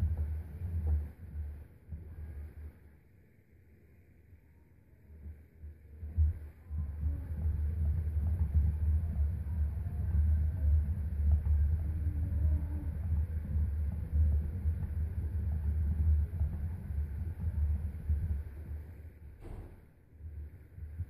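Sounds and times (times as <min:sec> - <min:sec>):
hamster wheel rumbling: 0:00.0 - 0:02.9, 0:05.1 - 0:21.0.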